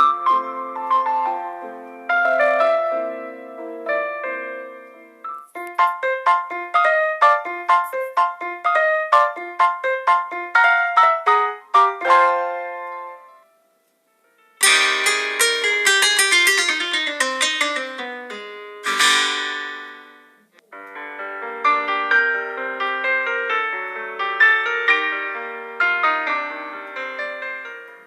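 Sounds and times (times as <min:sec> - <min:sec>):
plucked and keyboard instrumental music: 0:00.0 - 0:13.5, 0:14.6 - 0:28.0.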